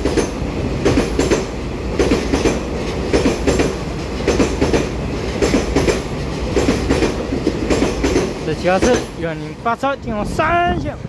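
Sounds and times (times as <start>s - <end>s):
train wheels clacking over rail joint: 0.0s - 9.3s
train rumble: 0.0s - 11.0s.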